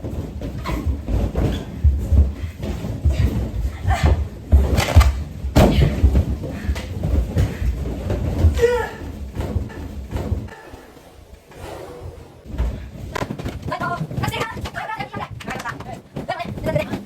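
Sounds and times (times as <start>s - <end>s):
rubber balloons thumping: 0.0s - 17.0s.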